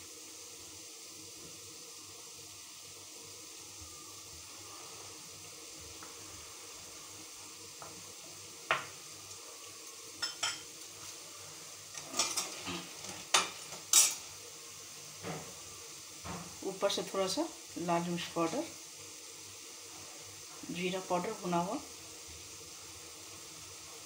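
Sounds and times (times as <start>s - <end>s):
faint hiss: 0.0s - 24.0s.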